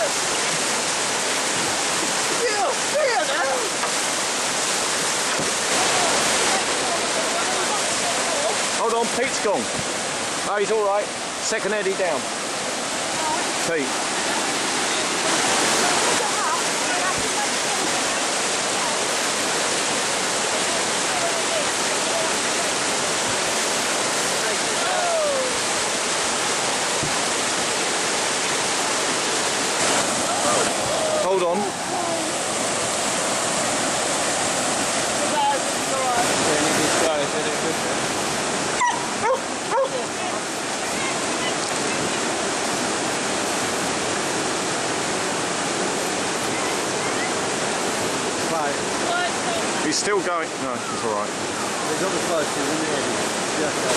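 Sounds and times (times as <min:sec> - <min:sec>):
river rapids rushing: 0:00.0 - 0:53.9.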